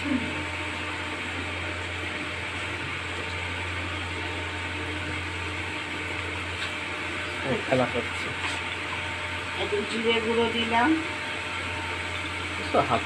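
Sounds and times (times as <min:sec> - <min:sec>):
low constant hum: 0:00.0 - 0:13.0
spices sizzling in hot oil: 0:00.0 - 0:13.0.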